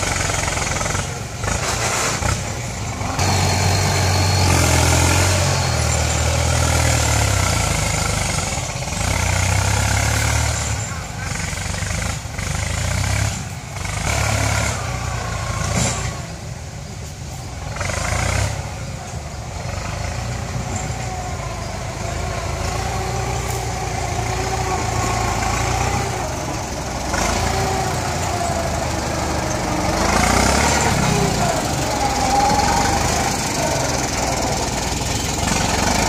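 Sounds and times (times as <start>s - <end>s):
harrow dragging over dirt: 0.0s - 36.0s
tractor diesel engine running: 0.0s - 36.0s.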